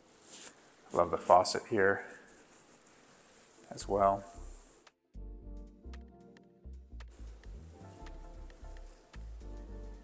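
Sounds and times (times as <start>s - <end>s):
quiet background music: 0.1s - 10.0s.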